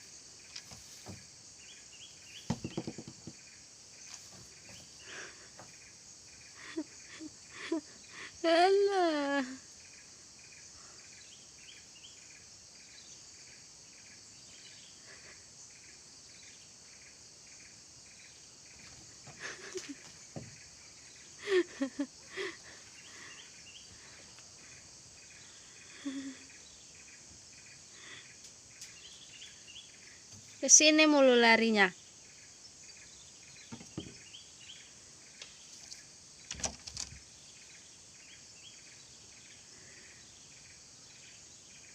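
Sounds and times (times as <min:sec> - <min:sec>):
insect chorus: 0:00.0 - 0:41.9.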